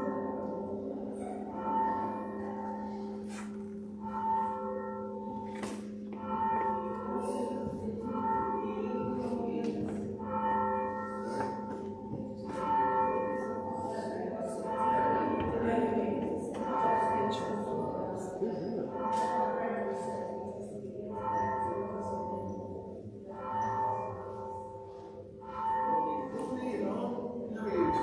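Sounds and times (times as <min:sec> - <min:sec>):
church bell tolling: 0:00.0 - 0:28.0.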